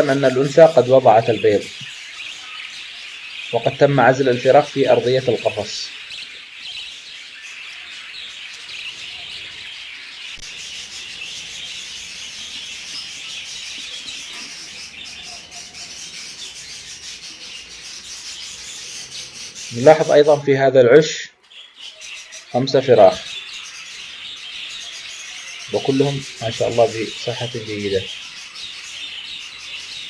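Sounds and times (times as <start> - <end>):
budgerigars chattering and chirping: 0.0 - 30.0.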